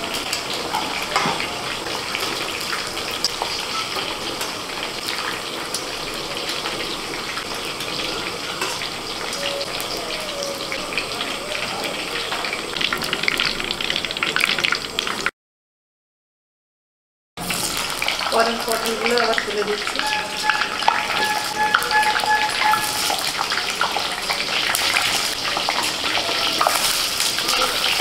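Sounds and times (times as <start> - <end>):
vegetables sizzling in oil: 0.0 - 15.3, 17.4 - 28.0.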